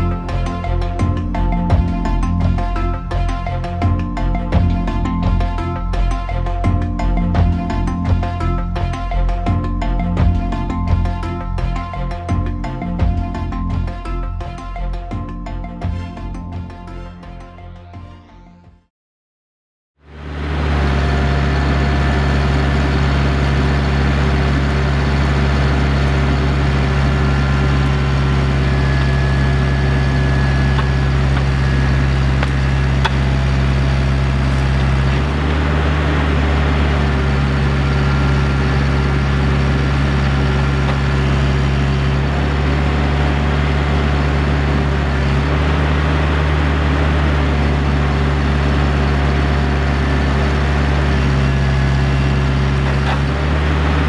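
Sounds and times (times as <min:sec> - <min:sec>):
heavy equipment engine running: 0:00.0 - 0:14.9, 0:20.0 - 0:54.0.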